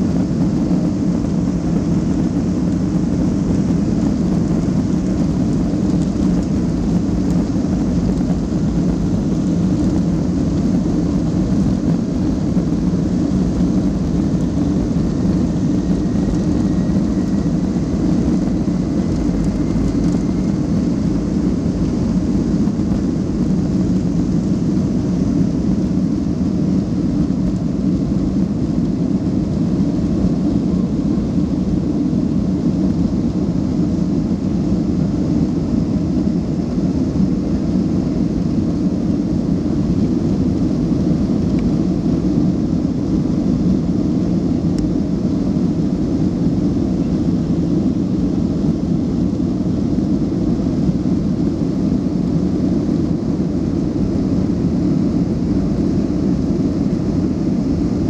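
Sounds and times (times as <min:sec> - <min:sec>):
jet engines in airliner cabin: 0:00.0 - 0:58.0.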